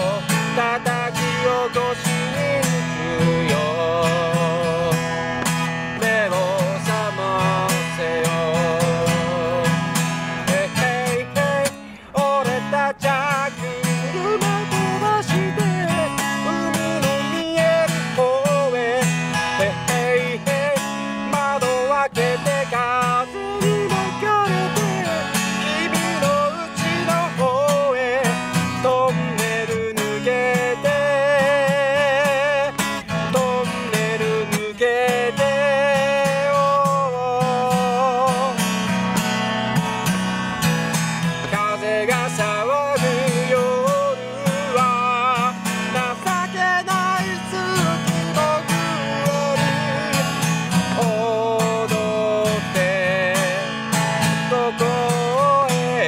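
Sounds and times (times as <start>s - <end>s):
man singing with vibrato: 0.0s - 56.0s
strummed acoustic guitar: 0.0s - 56.0s.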